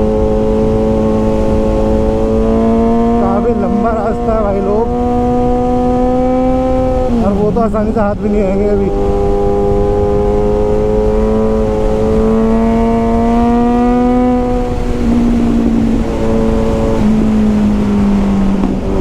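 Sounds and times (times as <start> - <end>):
motorcycle engine under load: 0.0 - 19.0
wind rumble on microphone: 0.0 - 19.0.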